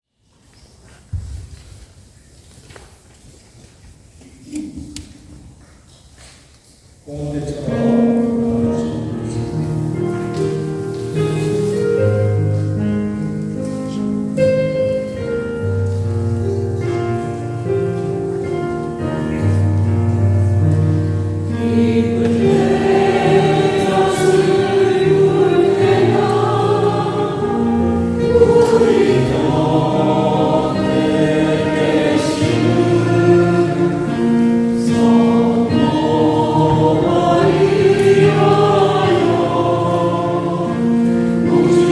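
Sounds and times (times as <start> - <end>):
choir singing hymn: 7.1 - 41.9
accompaniment chords: 7.4 - 41.9.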